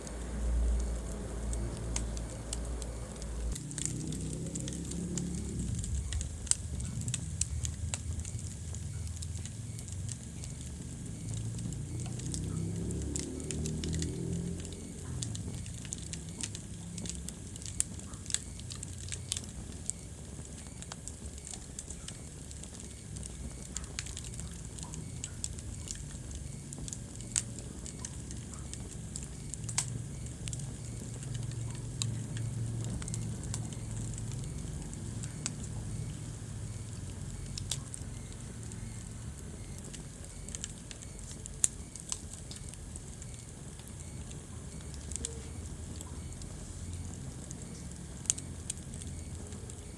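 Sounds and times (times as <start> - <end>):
low rumble of flames: 0.0 - 49.9
wood fire crackling and popping: 0.0 - 49.9.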